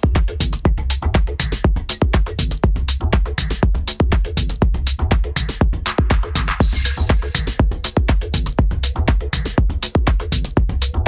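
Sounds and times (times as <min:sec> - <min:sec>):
deep bassline: 0:00.0 - 0:11.0
four-on-the-floor kick drum: 0:00.0 - 0:11.0
hi-hat ticks: 0:00.0 - 0:11.0.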